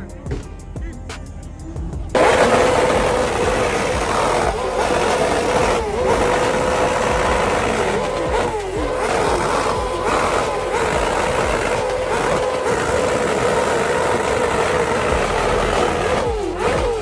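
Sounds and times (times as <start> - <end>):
car engine droning loudly: 2.2 - 17.0.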